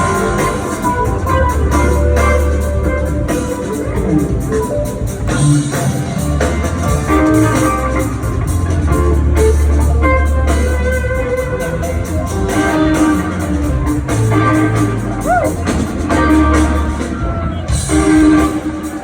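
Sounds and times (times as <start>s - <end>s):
bass line: 0.0s - 19.0s
drums: 0.0s - 19.0s
electric guitar notes: 0.0s - 19.0s.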